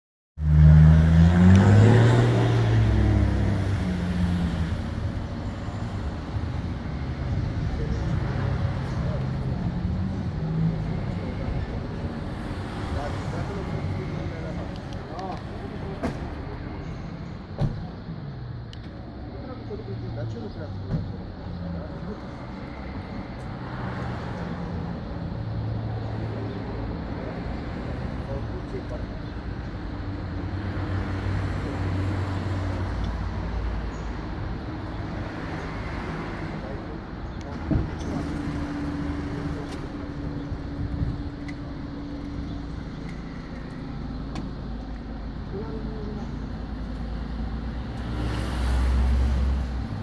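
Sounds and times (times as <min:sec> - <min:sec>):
road traffic rumble: 0:00.4 - 0:50.0.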